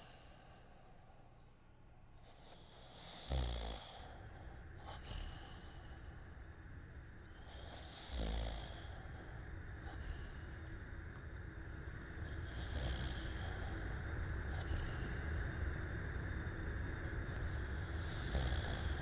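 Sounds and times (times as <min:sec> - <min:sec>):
person snoring: 0:02.3 - 0:06.4, 0:07.2 - 0:19.0.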